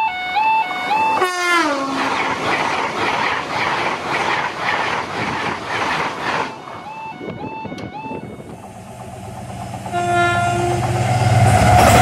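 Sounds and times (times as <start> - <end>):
high-speed train passing: 0.0 - 12.0
wheels clickety-clack: 0.6 - 12.0.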